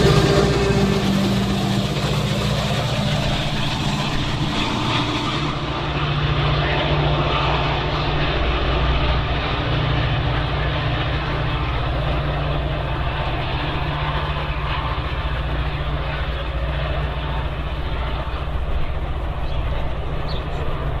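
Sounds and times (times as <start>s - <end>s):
diesel locomotive engine drone: 0.0s - 21.0s
rail noise: 0.0s - 21.0s.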